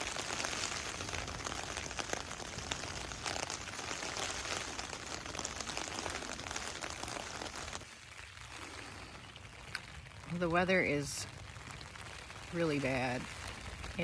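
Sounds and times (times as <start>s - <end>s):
heavy rain: 0.0s - 14.0s
wind rumble on microphone: 0.0s - 14.0s.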